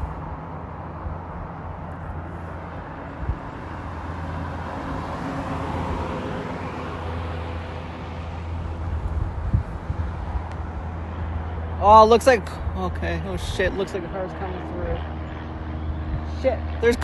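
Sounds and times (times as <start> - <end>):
low engine hum: 0.0 - 17.0
vehicle passing by: 0.0 - 17.0.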